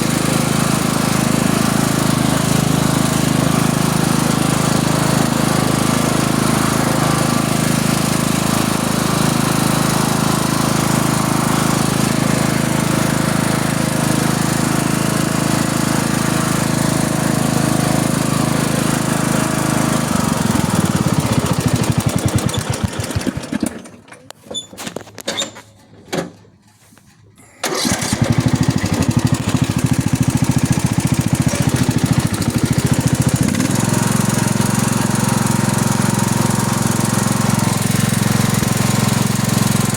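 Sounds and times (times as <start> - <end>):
lawn tractor engine running: 0.0 - 25.2, 27.4 - 39.9.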